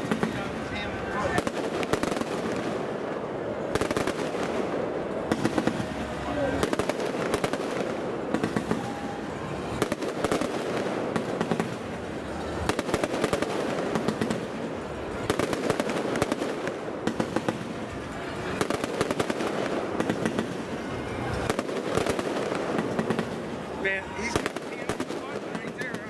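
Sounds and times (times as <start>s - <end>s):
fireworks crackling: 0.0s - 26.0s
steady background din: 0.0s - 26.0s.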